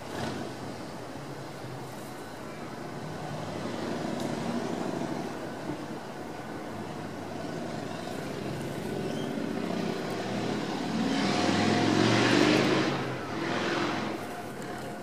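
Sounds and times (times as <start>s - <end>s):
diesel locomotive engines droning: 0.0s - 15.0s.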